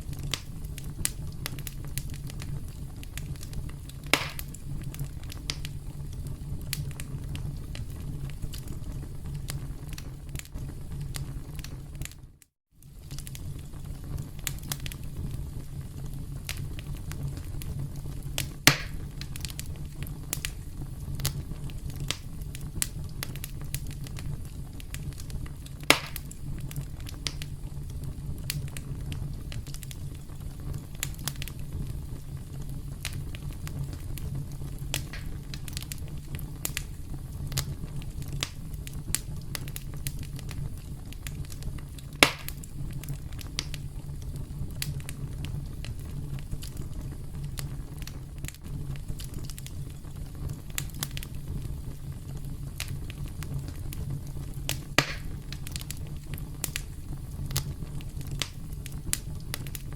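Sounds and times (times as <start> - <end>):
campfire crackling: 0.0 - 59.9
sharp fire pops: 0.0 - 59.9.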